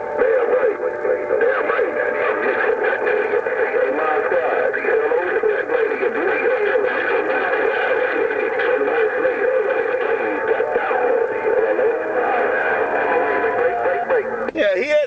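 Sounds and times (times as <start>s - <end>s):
garbled radio voices: 0.0s - 15.0s
radio static: 0.0s - 15.0s.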